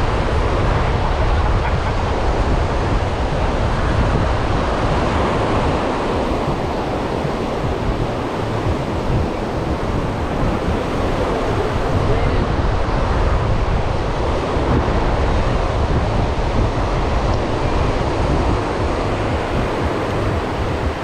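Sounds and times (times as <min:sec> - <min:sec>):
ocean surf on beach: 0:00.0 - 0:21.0
wind buffeting microphone: 0:00.0 - 0:21.0.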